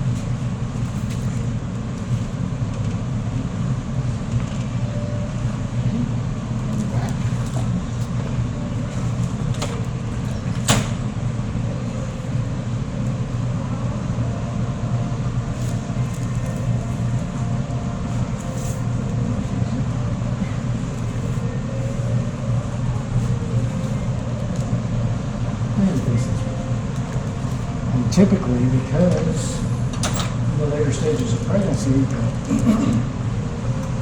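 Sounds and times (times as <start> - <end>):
low rumbling hum: 0.0 - 34.0.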